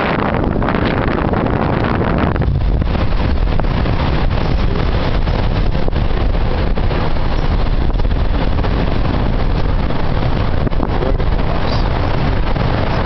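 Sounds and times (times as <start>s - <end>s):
heavy surf breaking: 0.0s - 13.0s
wind buffeting microphone: 0.0s - 13.0s.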